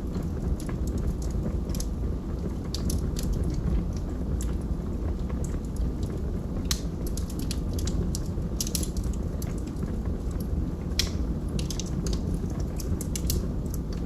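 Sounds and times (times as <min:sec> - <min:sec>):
log fire crackling and popping: 0:00.0 - 0:14.0
low rumble of flames: 0:00.0 - 0:14.0.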